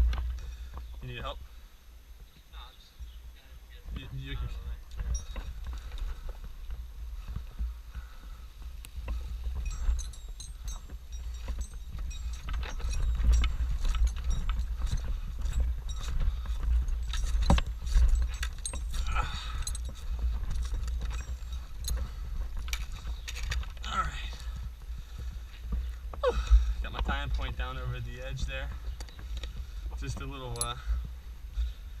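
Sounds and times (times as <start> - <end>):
climbing gear clicks and clinks: 3.9 - 31.9.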